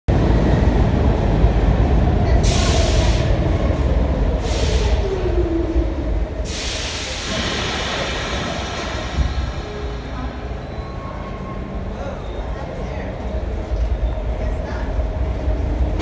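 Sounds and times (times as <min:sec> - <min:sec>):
train wheels rumbling on rails: 0:00.1 - 0:16.0.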